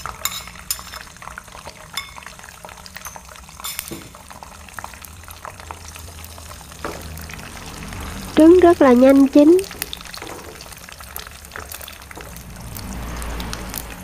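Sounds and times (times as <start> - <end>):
eggs sizzling in hot oil: 0.0 - 14.0.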